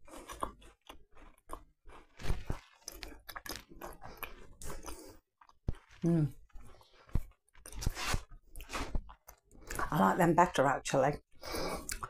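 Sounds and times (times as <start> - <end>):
person chewing biscuit: 0.0 - 9.9, 11.3 - 12.0.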